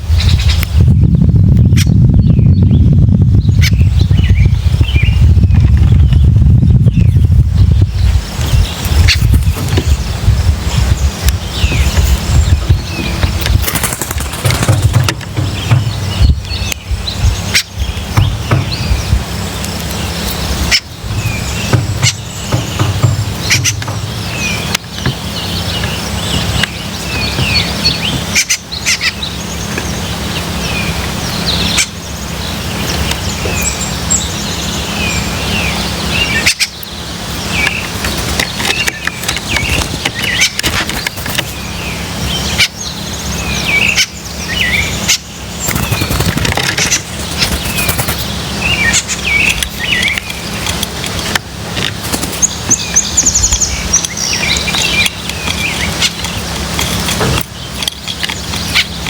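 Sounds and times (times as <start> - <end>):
steady low rumble: 0.0 - 59.0
wild birds chirping: 0.0 - 59.0.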